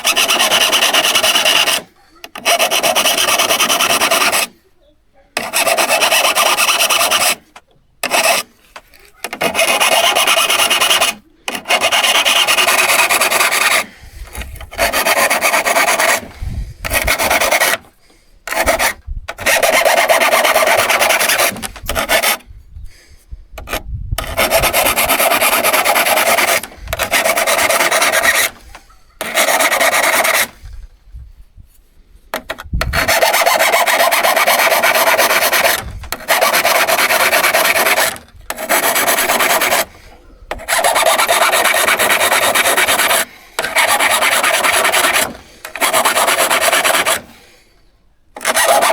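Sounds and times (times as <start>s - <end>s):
hand tool rasping strokes: 0.0s - 4.7s, 5.4s - 22.5s, 23.6s - 30.8s, 32.3s - 47.7s, 48.4s - 48.9s.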